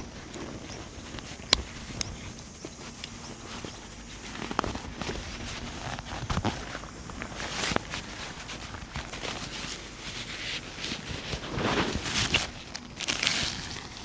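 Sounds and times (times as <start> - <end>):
light knocks of handling gear: 0.0 - 14.0
rustling: 0.0 - 14.0
scrapes: 0.0 - 14.0.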